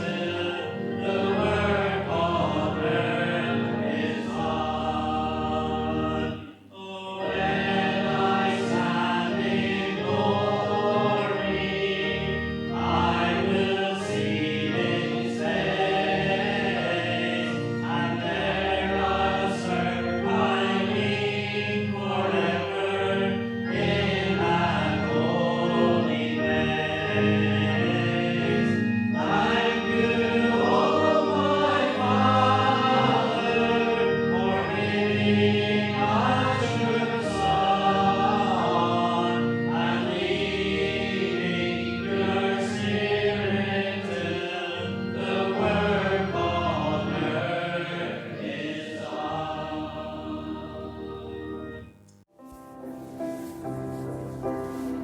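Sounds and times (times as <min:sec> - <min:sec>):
congregation singing a hymn: 0:00.0 - 0:52.0, 0:53.2 - 0:55.0
held instrumental chords: 0:07.3 - 0:55.0.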